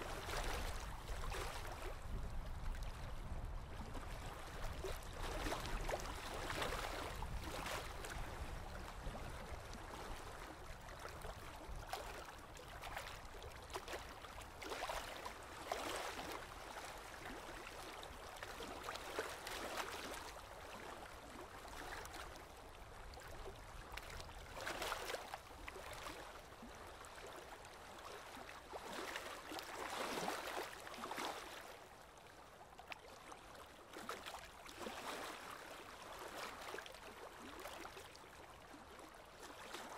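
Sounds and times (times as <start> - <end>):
river waves lapping and splashing: 0.0 - 39.9.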